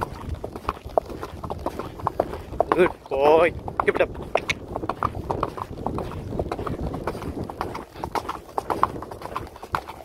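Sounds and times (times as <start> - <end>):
horse hoofbeats on dirt: 0.0 - 10.0.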